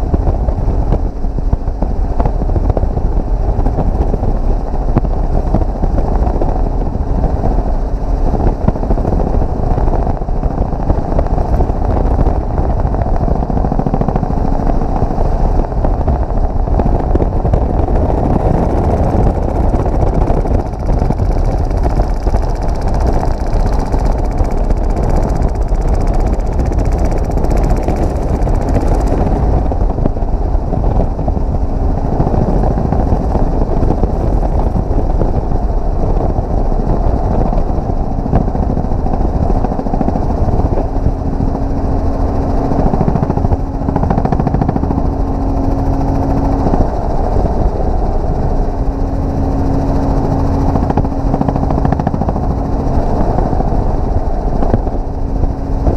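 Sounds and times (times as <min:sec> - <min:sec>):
helicopter rotor and engine noise: 0:00.0 - 0:55.9
steady hum: 0:00.0 - 0:55.9.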